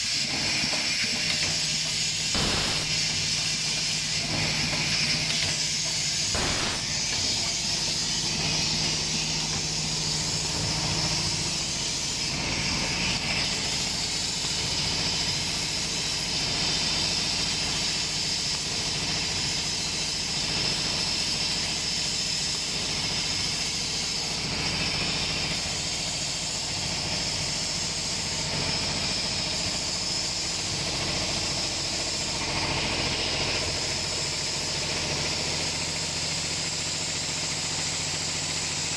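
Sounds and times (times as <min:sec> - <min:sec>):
packaging machine hiss and hum: 0:00.0 - 0:38.9.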